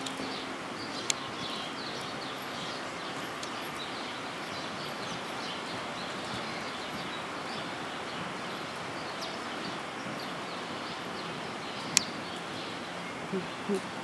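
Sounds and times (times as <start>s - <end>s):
small birds chirping: 0.0s - 14.0s
steady background hiss: 0.0s - 14.0s.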